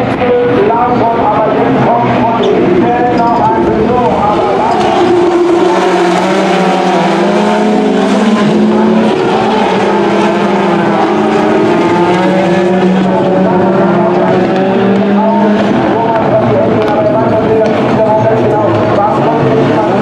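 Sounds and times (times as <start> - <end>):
racing car engines at high revs: 0.0 - 20.0.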